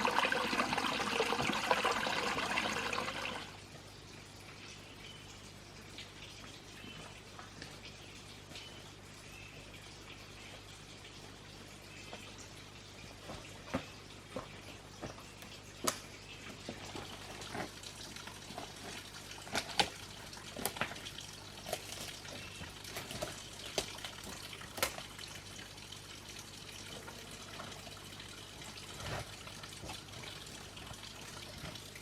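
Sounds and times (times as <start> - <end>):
water trickling and dripping: 0.0 - 32.0.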